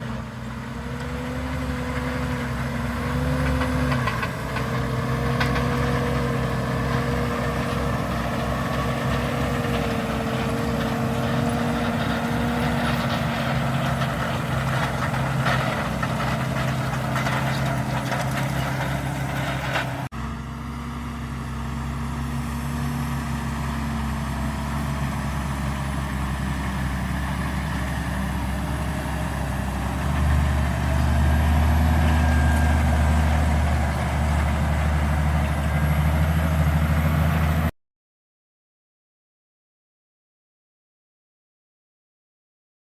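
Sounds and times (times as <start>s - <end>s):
tractor diesel engine running: 0.0s - 37.7s.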